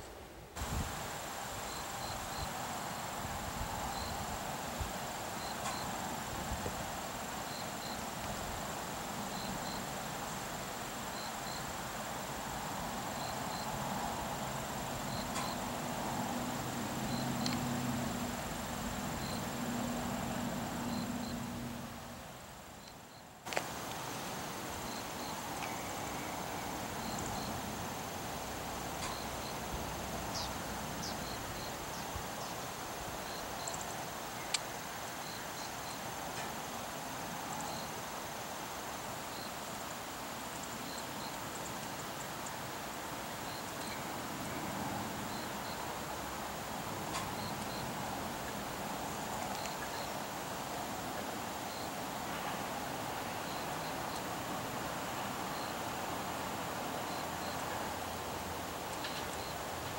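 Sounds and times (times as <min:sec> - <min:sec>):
crickets chirping: 0:00.6 - 0:59.9.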